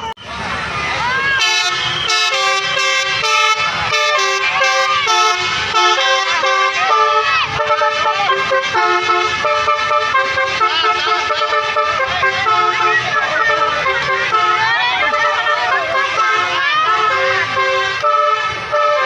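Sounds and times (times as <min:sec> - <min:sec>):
multi-tone musical bus horn: 0:00.0 - 0:19.0.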